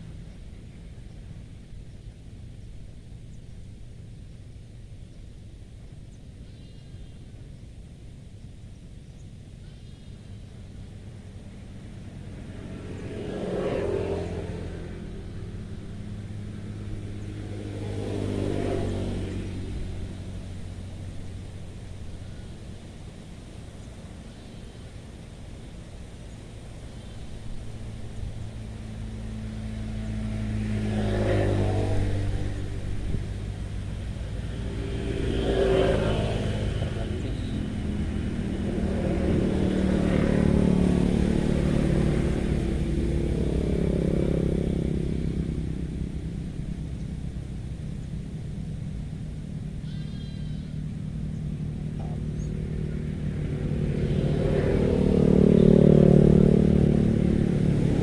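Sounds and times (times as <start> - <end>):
vehicles passing on road: 0.0 - 58.0.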